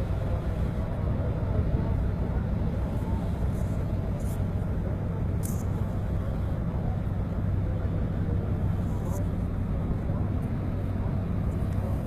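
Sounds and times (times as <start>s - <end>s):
ship engines humming: 0.0s - 12.0s.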